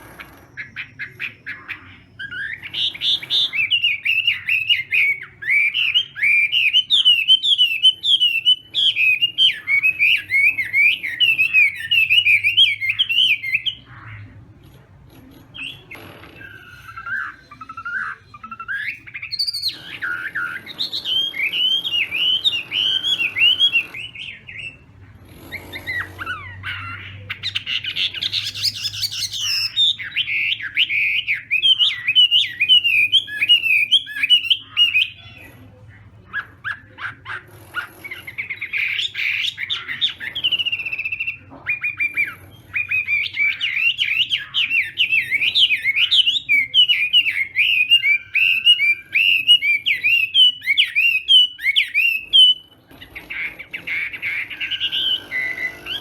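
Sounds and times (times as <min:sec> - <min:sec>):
bird warbling: 0:00.0 - 0:56.0.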